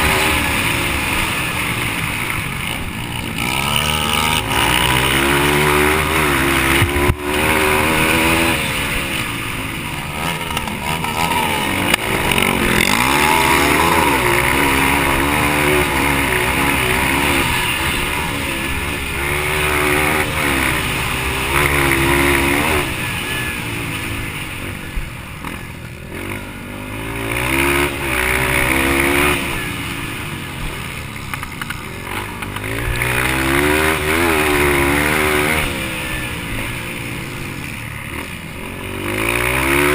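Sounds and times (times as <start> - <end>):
dirt bike engine revving: 0.0 - 39.9
steady rushing noise: 0.0 - 39.9.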